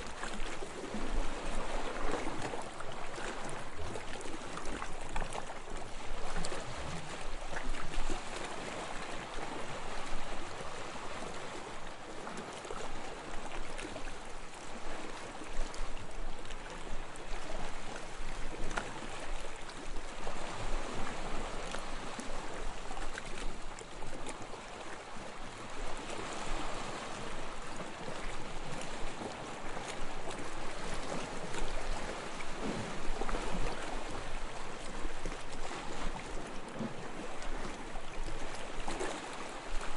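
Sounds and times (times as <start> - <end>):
small waves lapping on sand: 0.0 - 39.9.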